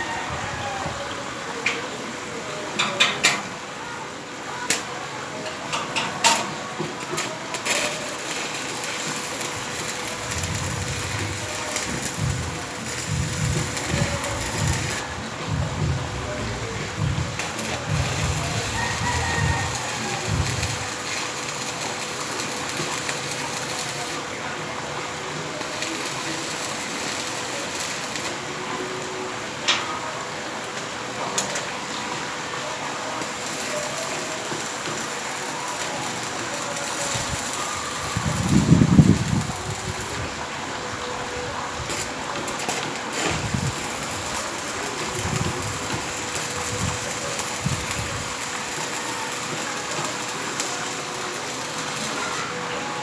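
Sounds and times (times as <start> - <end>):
welding arc crackling hiss: 4.5 - 29.2, 32.7 - 53.0.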